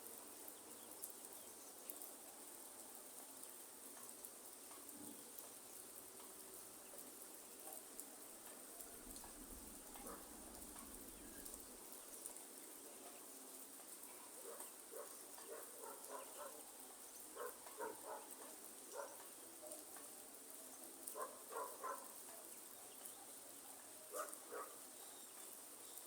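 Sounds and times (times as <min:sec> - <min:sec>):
faint rain hiss: 0:00.0 - 0:26.0.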